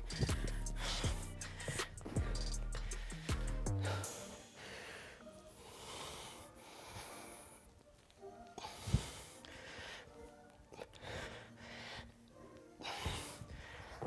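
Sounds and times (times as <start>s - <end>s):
person breathing hard: 0.0s - 7.8s, 8.4s - 14.0s.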